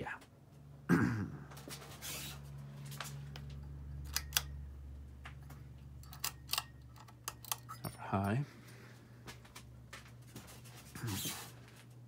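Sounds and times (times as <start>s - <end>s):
ceiling fan motor humming: 0.0s - 12.0s.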